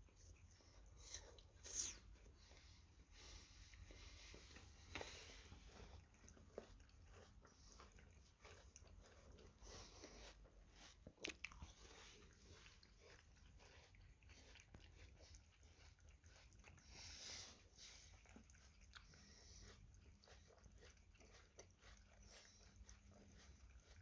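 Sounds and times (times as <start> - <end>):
cat lapping water: 2.4 - 24.0.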